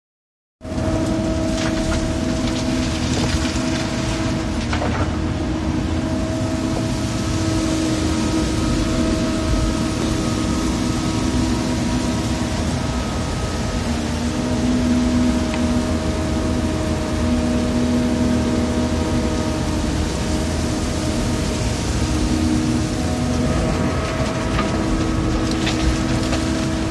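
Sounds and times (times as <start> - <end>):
excavator diesel engine running: 0.6 - 26.9.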